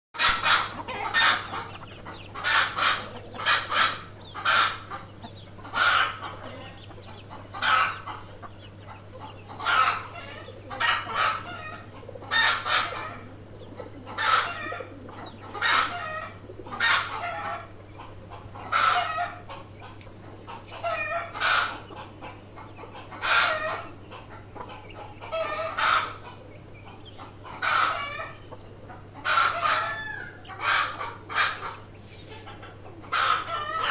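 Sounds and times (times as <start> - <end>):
chickens clucking: 0.2 - 33.9
steady high-pitched hiss: 0.2 - 33.9.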